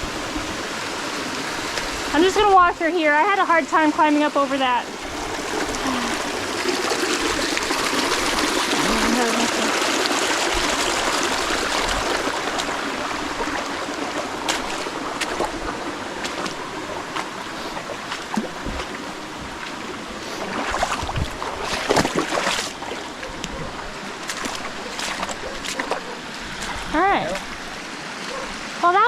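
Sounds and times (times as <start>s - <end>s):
shallow creek running: 0.0s - 29.0s
splashing steps wading in water: 4.8s - 28.4s.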